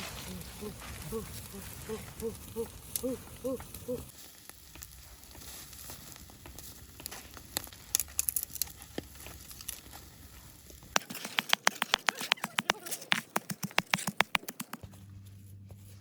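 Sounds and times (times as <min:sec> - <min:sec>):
food crackling and popping over fire: 0:00.0 - 0:14.9.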